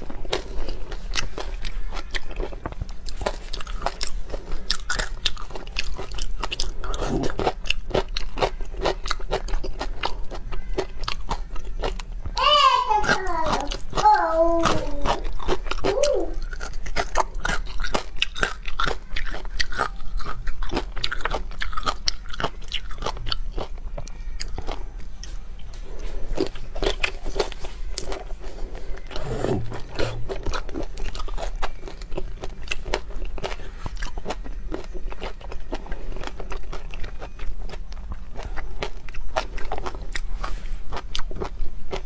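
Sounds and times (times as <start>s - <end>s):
shrimp crunching while chewed: 0.0s - 12.3s, 14.6s - 42.0s.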